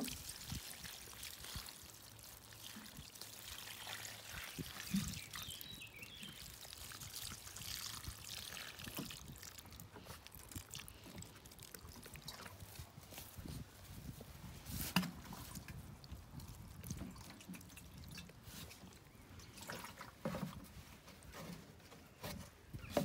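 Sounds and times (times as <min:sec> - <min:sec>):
water trickling onto plant: 0:00.0 - 0:20.4.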